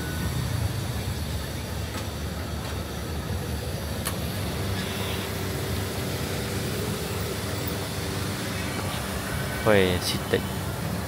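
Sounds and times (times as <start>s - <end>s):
road traffic engines: 0.0s - 11.0s.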